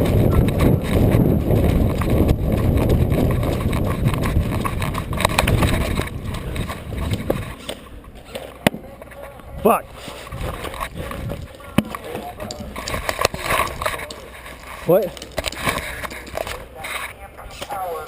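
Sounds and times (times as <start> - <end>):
wind buffeting microphone: 0.0 - 8.2, 9.0 - 18.0
running footsteps: 0.0 - 18.0.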